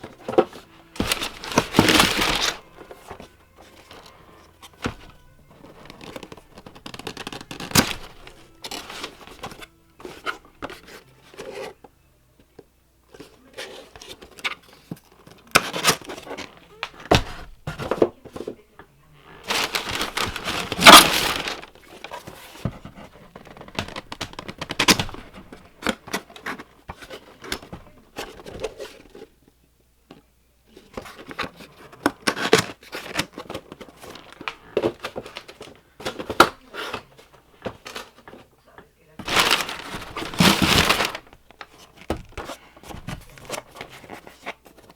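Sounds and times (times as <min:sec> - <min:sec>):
cardboard and plastic rustling: 0:00.0 - 0:29.5, 0:30.1 - 0:44.9.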